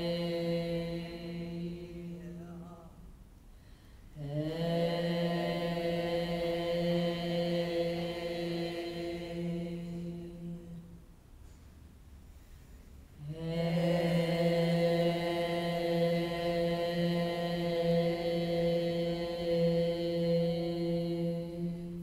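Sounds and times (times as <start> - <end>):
woman chanting a long held tone: 0.0 - 3.1, 4.1 - 11.0, 13.2 - 22.0.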